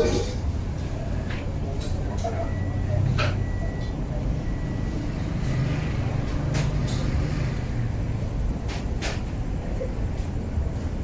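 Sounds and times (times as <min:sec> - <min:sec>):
low rumble of city traffic: 0:00.0 - 0:11.0.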